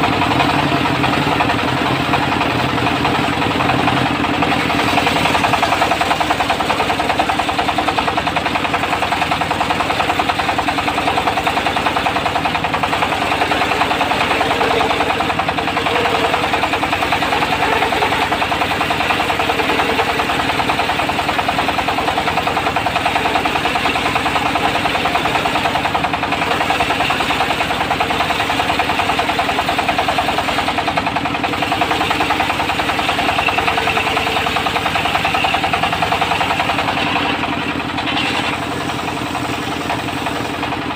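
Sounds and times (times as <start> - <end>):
diesel engine of sawmill running: 0.0 - 40.9.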